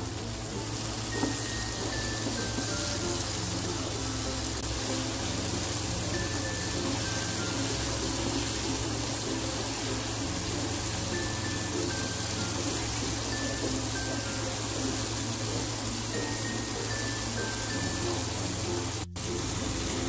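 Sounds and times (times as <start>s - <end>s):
paste sizzling in hot oil: 0.0s - 20.0s
soft background music: 0.0s - 20.0s.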